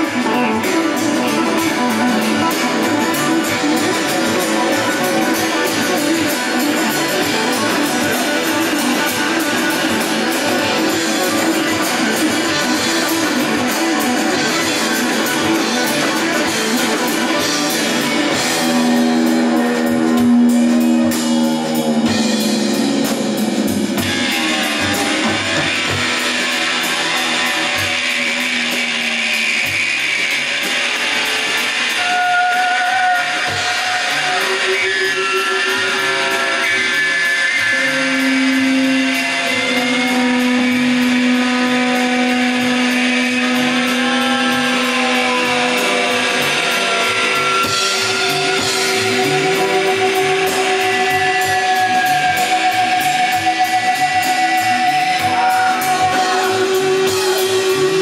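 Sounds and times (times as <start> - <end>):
electric bass: 0.0 - 58.0
electric guitars: 0.0 - 58.0.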